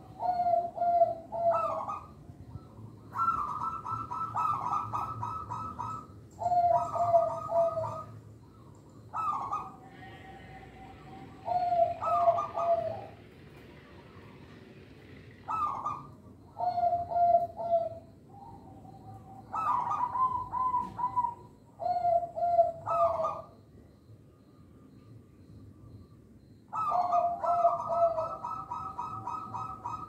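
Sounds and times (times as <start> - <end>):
dove cooing: 0.0 - 24.6, 25.4 - 30.0.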